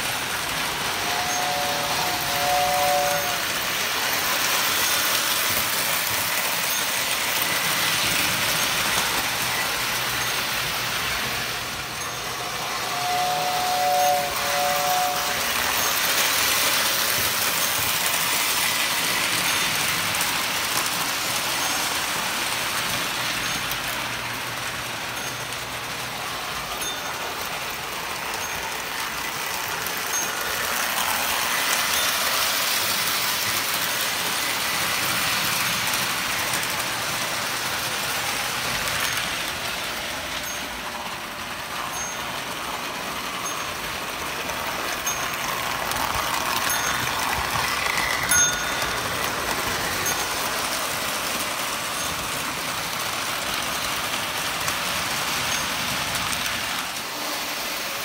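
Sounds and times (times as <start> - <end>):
model train whirring: 0.0 - 58.0.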